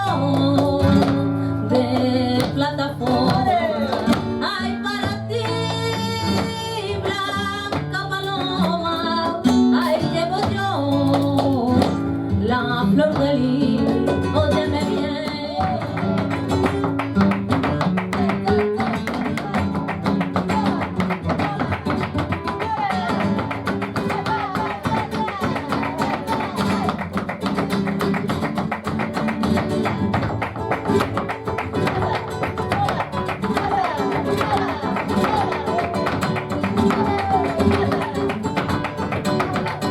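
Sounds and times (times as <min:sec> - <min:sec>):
person singing: 0:00.0 - 0:16.9, 0:18.2 - 0:27.0, 0:31.7 - 0:39.9
acoustic guitar: 0:00.0 - 0:39.9.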